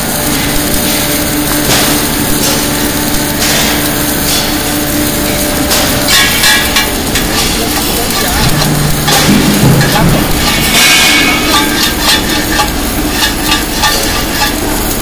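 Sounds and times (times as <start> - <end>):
welding machine humming: 0.0 - 15.0.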